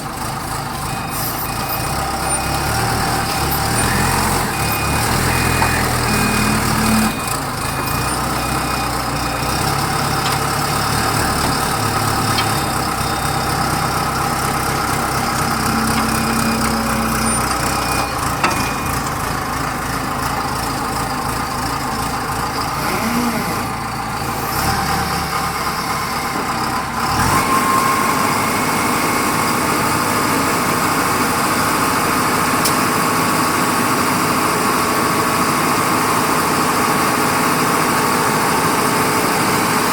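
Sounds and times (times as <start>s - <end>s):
concrete mixer engine rumbling: 0.0s - 39.9s.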